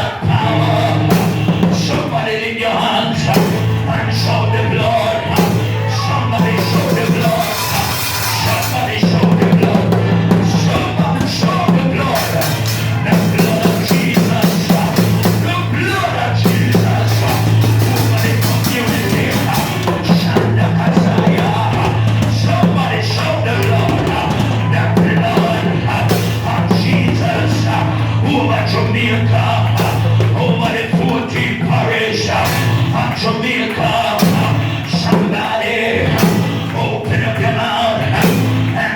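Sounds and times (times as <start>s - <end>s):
sustained bass line: 0.0s - 2.2s, 3.1s - 33.1s
drum kit: 0.0s - 2.3s, 3.1s - 4.4s, 5.2s - 38.9s
band music: 0.0s - 38.9s.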